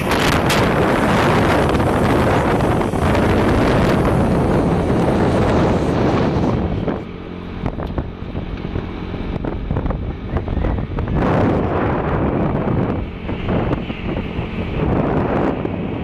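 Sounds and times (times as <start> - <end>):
vehicle engine hum: 0.0 - 16.0
wind buffeting microphone: 0.0 - 16.0.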